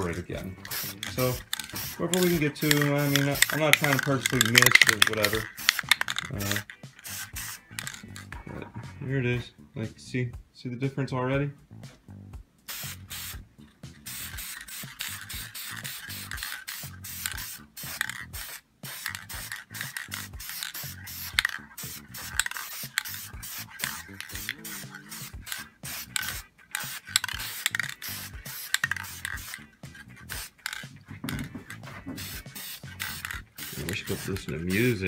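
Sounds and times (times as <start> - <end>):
spray paint can hissing: 0.0 - 8.3, 12.7 - 35.0.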